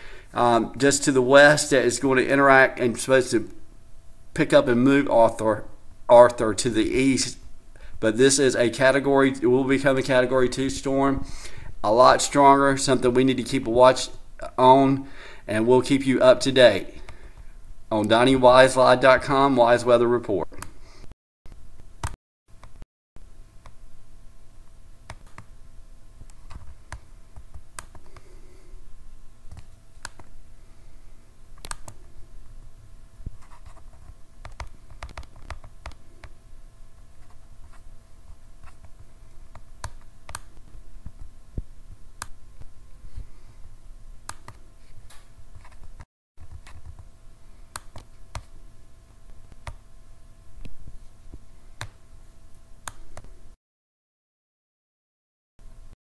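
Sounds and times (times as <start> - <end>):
faint electrical hum: 0.0 - 53.6, 55.6 - 56.0.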